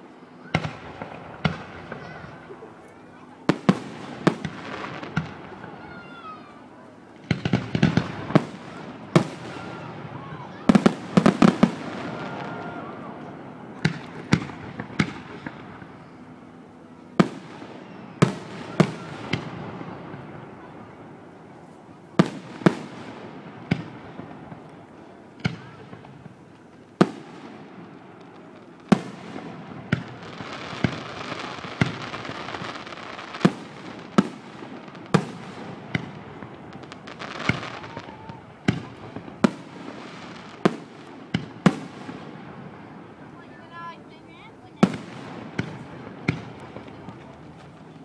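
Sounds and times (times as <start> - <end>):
fireworks crackling hiss: 0.0 - 48.0.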